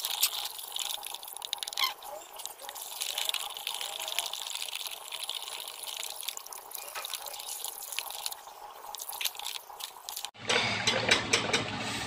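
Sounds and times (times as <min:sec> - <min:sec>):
thick paint being stirred: 0:00.0 - 0:10.4.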